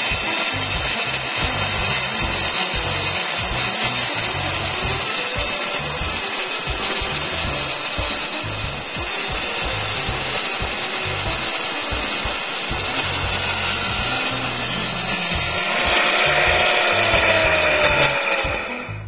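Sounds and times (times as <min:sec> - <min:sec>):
background music with a beat: 0:00.0 - 0:19.0
tile saw cutting with high whine: 0:00.0 - 0:19.0.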